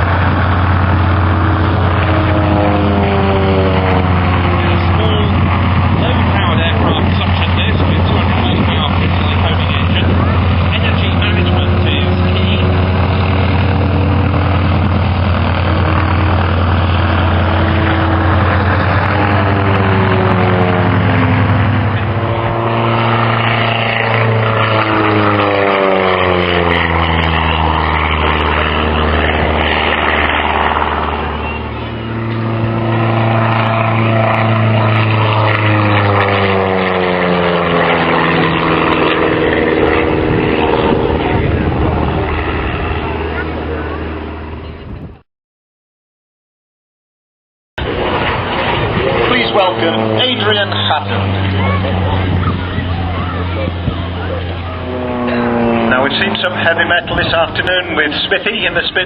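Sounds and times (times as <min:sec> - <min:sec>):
propeller aircraft engine droning: 0:00.0 - 0:45.2, 0:47.8 - 0:59.0.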